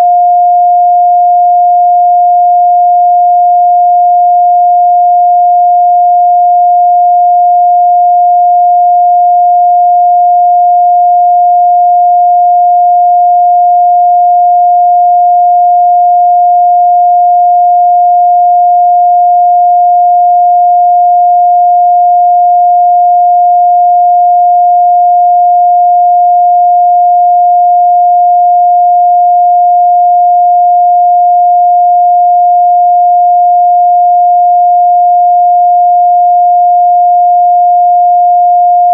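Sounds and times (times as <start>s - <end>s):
steady sine-wave test tone: 0.0s - 38.9s.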